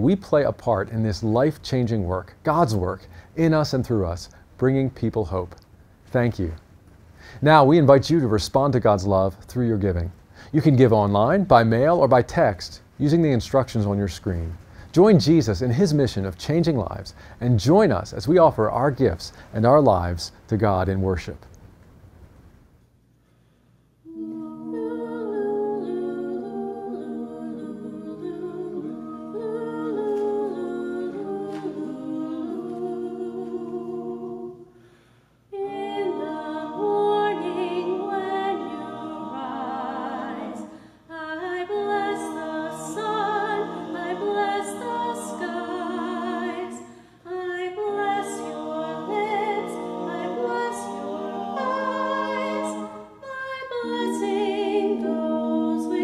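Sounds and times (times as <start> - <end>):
vocal quartet singing a cappella: 0.0 - 21.0, 24.0 - 56.0.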